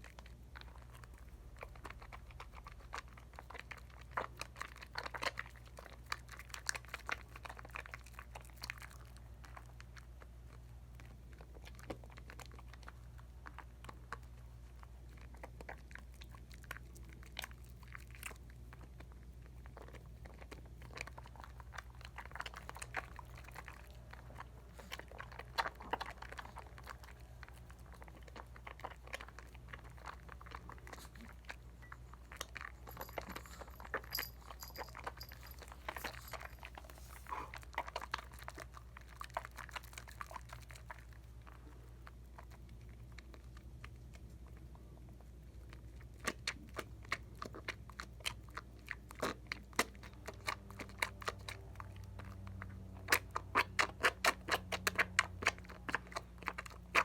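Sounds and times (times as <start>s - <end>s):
soap lather squishing and popping: 0.0s - 57.0s.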